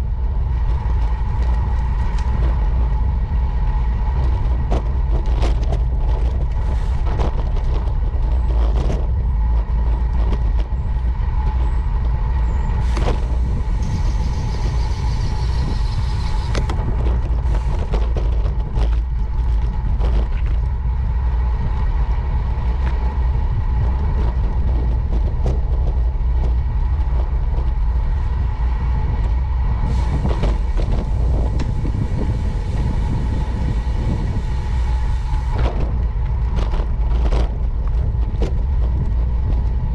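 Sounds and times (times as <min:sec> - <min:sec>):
wind rumbling on microphone: 0:00.0 - 0:39.9
bicycle knocks and rattles: 0:00.3 - 0:12.2, 0:16.4 - 0:34.4, 0:35.0 - 0:39.9.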